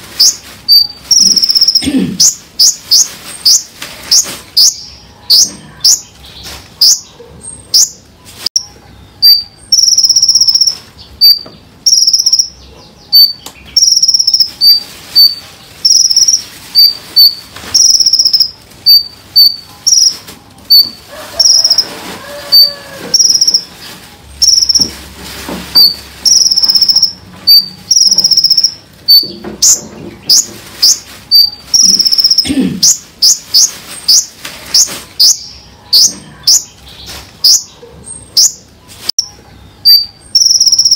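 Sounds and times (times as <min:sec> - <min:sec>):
songbird singing: 0:00.2 - 0:25.0, 0:25.7 - 0:40.9.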